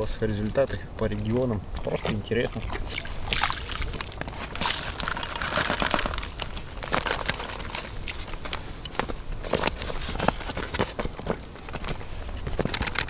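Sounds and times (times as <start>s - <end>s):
crumbs pattering on water: 1.0s - 12.0s.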